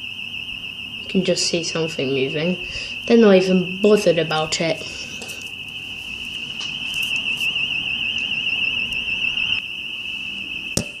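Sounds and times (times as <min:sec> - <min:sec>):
high-pitched alarm tone: 0:00.0 - 0:11.0.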